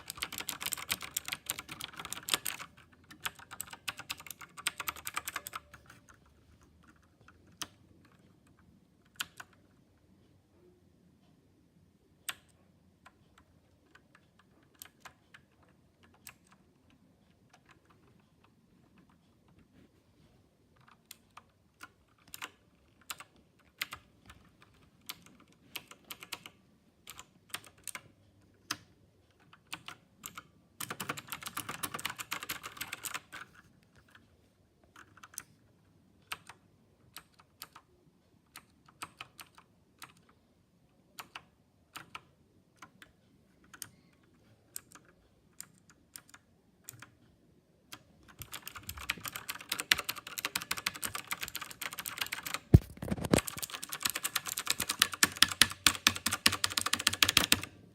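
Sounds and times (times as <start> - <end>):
mechanical keyboard typing: 0.0 - 10.0, 12.2 - 19.8, 20.7 - 34.2, 34.9 - 35.6, 36.2 - 40.4, 41.1 - 47.3, 47.9 - 57.8.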